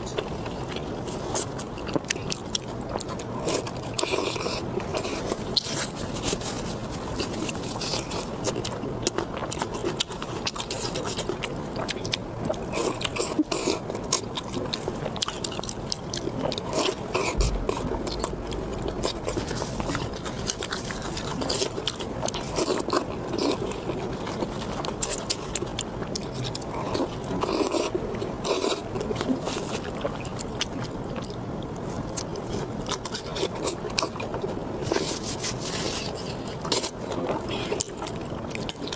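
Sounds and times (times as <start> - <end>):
crunchy clicks and mouth sounds: 0.0 - 35.1
chewing and biting: 0.0 - 38.9.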